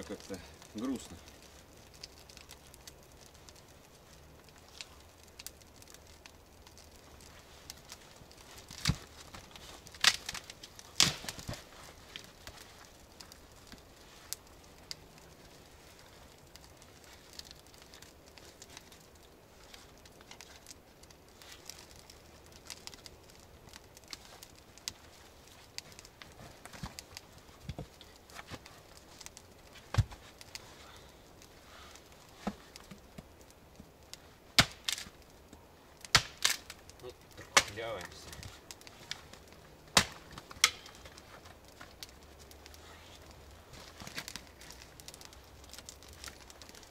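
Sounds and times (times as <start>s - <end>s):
dry wood cracking: 0.0s - 46.9s.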